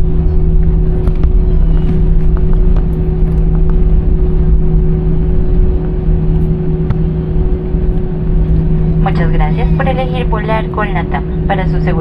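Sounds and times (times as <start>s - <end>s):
constant hum: 0.0s - 12.0s
jet engine rumble: 0.0s - 12.0s.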